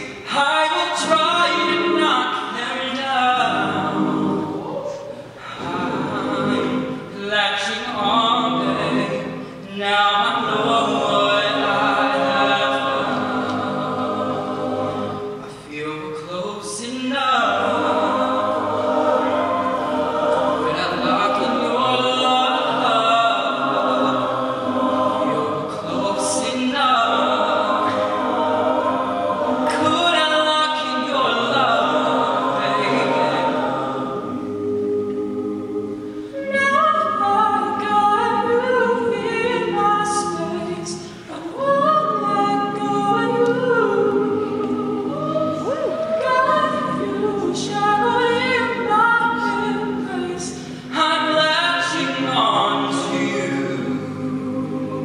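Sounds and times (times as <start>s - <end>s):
male a cappella group singing: 0.0s - 55.0s.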